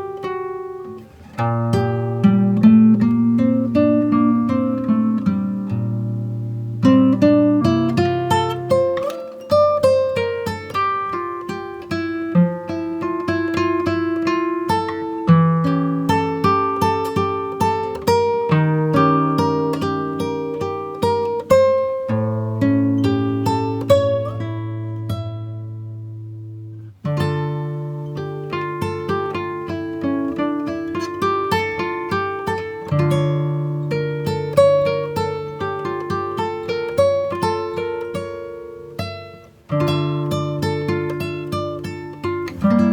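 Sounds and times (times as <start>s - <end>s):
acoustic guitar music: 0.0s - 42.9s.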